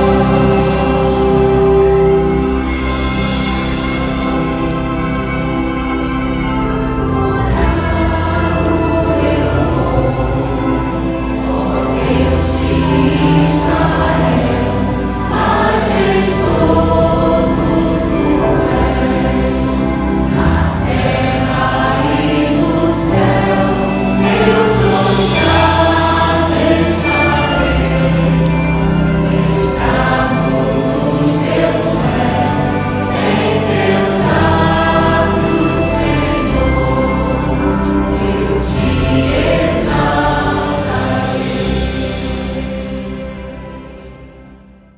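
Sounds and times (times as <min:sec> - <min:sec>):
group singing in chorus: 0:00.0 - 0:04.7, 0:07.0 - 0:44.2.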